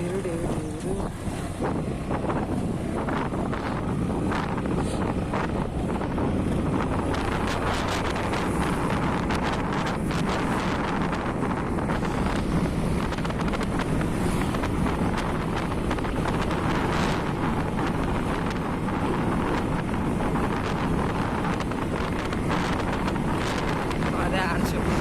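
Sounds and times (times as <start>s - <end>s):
motorcycle riding rumble: 0.0s - 25.0s
wind buffeting microphone: 0.0s - 25.0s.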